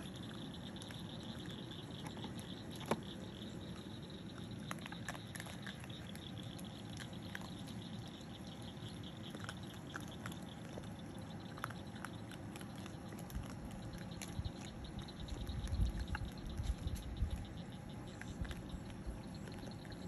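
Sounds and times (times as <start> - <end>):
animals crunching food: 0.0 - 20.0.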